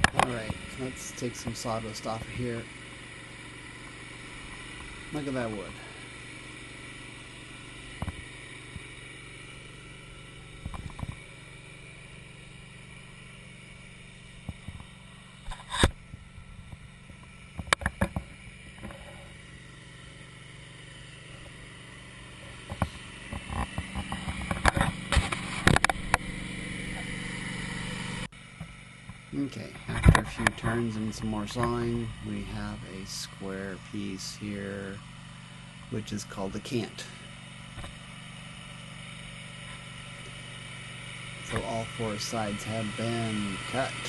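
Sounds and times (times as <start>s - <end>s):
bandsaw mill cutting log: 0.0s - 44.0s.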